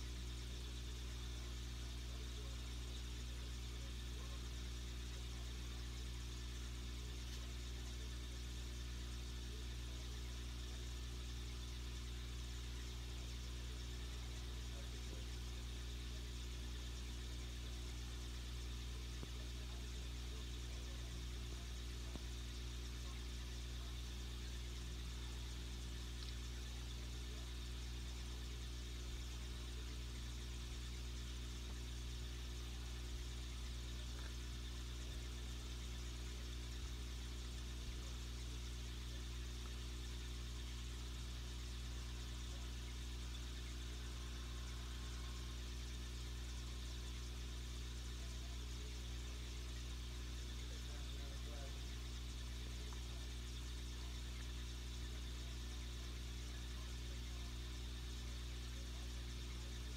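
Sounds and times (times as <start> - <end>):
low electric hum: 0.0 - 59.9.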